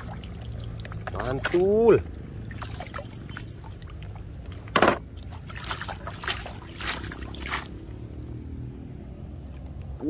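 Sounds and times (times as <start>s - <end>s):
hand sloshing water: 0.0s - 8.2s.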